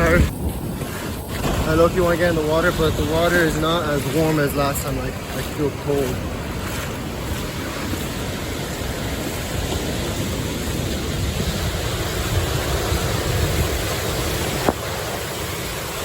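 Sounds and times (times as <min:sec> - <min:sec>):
ocean surf washing on shore: 0:00.0 - 0:16.0.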